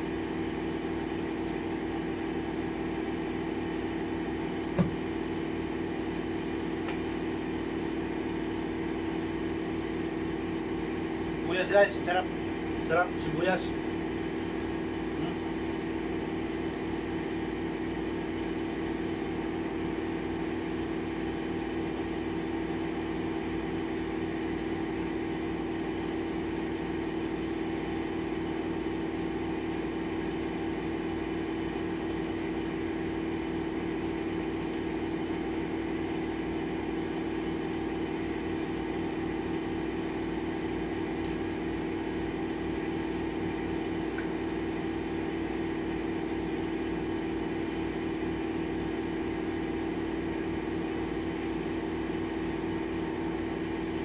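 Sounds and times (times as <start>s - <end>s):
machine hum with low throb: 0.0s - 54.0s.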